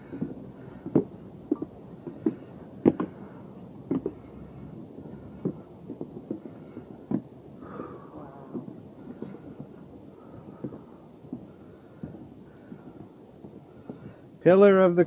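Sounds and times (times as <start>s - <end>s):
footsteps on wooden boardwalk: 0.0s - 15.0s.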